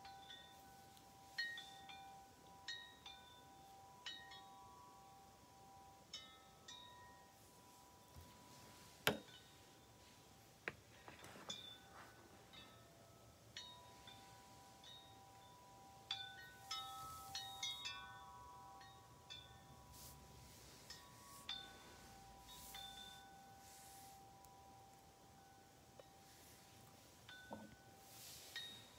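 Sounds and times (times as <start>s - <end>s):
metal wind chimes ringing: 0.0s - 28.9s.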